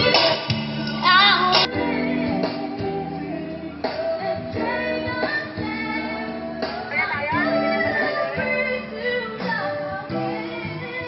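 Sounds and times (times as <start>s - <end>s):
woman singing over loud music: 0.0s - 11.0s.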